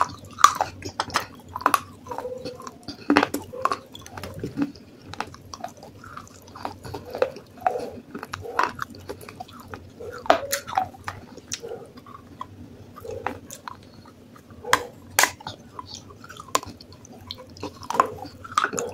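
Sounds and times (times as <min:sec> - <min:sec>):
chewing and crunching clay: 0:00.0 - 0:18.9
wet mouth sounds: 0:00.0 - 0:18.9.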